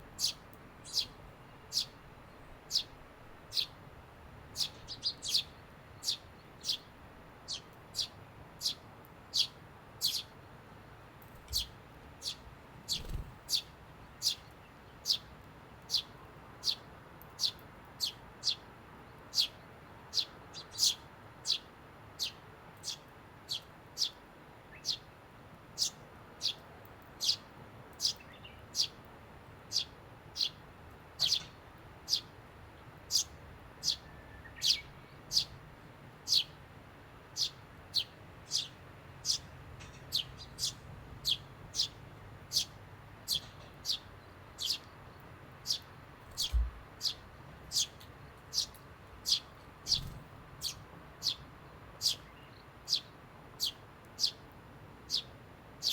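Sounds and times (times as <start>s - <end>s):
sparrow chirping: 0.1s - 3.8s, 4.5s - 10.3s, 11.4s - 15.3s, 15.9s - 18.6s, 19.3s - 25.1s, 25.8s - 26.6s, 27.2s - 29.0s, 29.7s - 30.6s, 31.2s - 32.4s, 33.1s - 35.6s, 36.2s - 36.6s, 37.3s - 54.5s, 55.1s - 55.9s.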